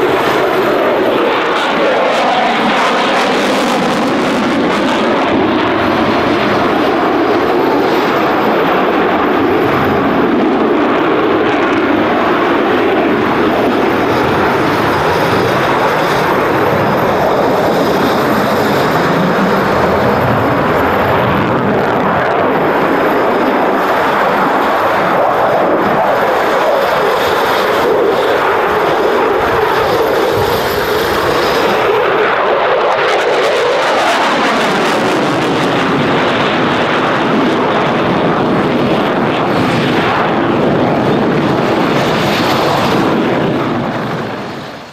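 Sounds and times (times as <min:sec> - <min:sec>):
jet engines in afterburner: 0:00.0 - 0:44.9.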